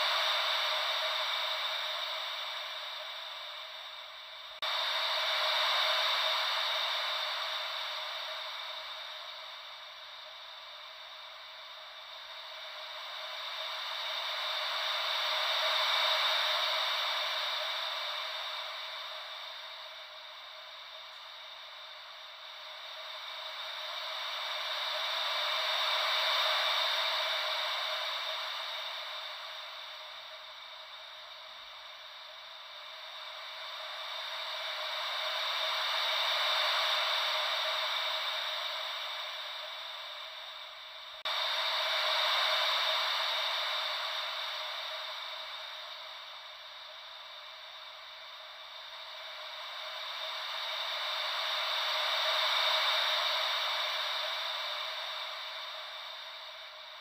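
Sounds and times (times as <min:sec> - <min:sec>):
ocean wave white noise: 0:00.0 - 0:57.0.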